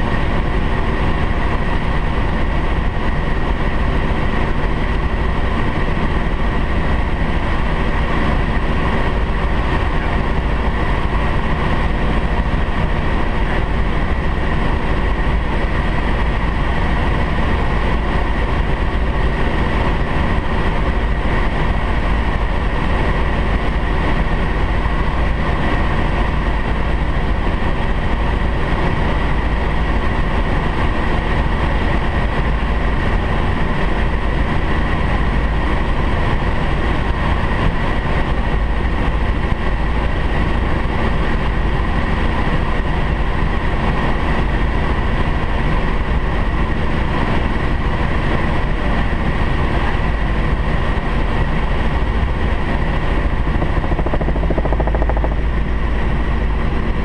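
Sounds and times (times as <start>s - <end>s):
constant high whine: 0.0s - 57.0s
helicopter engine and rotor: 0.0s - 57.0s.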